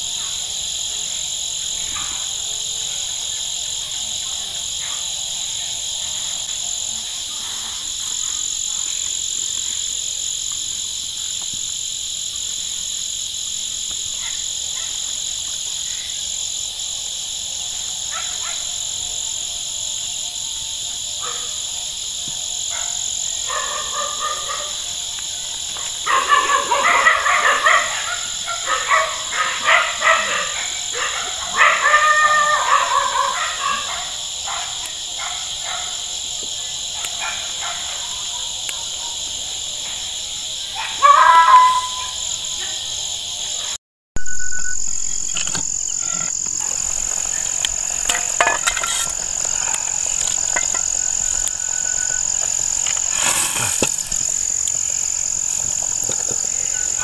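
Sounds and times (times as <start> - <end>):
frogs croaking: 0.0 - 39.6, 40.2 - 57.0
high-pitched insect chorus: 0.0 - 57.0.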